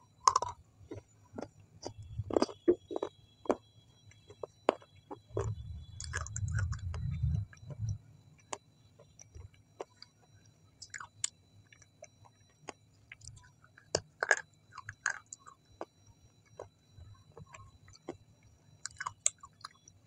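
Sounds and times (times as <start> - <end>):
person chewing food: 0.2 - 20.0.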